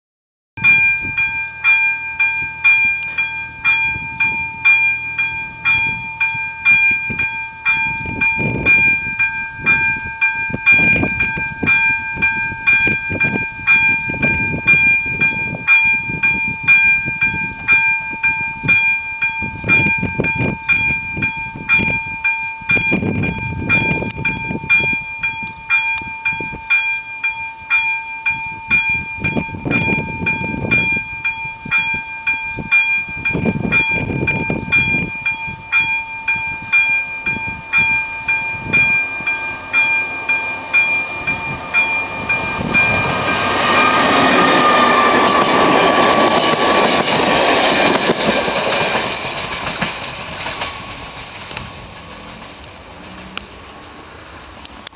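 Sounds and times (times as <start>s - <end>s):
level crossing warning bell: 0.6s - 49.6s
low rumbles: 0.6s - 54.9s.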